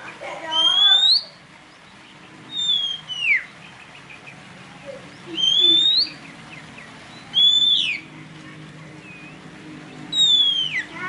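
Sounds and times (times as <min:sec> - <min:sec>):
soft faint bird notes: 0:00.0 - 0:11.0
bird whistled song: 0:00.5 - 0:04.4, 0:05.0 - 0:08.1, 0:09.0 - 0:11.0.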